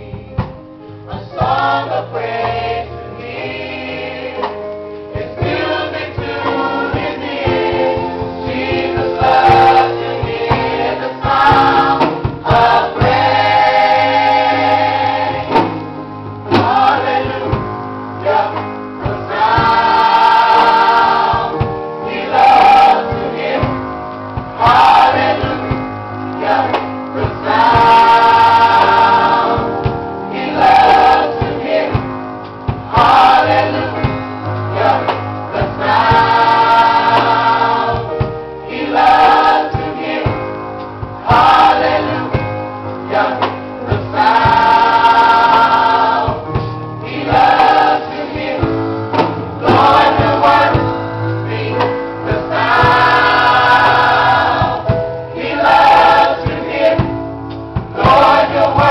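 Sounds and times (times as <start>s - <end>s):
gospel choir singing: 0.0s - 58.9s
instrumental accompaniment: 0.0s - 58.9s
steady bass line: 0.0s - 58.9s.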